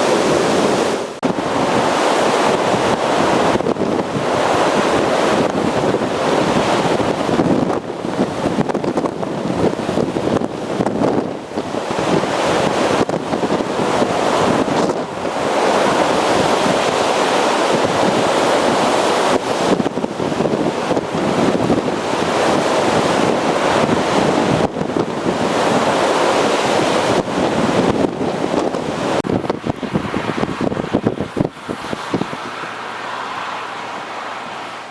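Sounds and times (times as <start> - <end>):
storm waves breaking: 0.0 - 34.9
wind buffeting microphone: 0.0 - 34.9.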